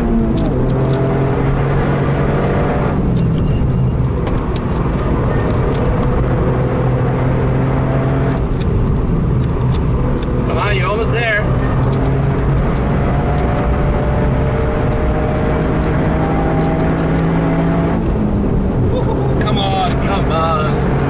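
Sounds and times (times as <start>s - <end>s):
turbocharged engine pulling hard: 0.0s - 21.0s
tyre and road noise: 0.0s - 21.0s.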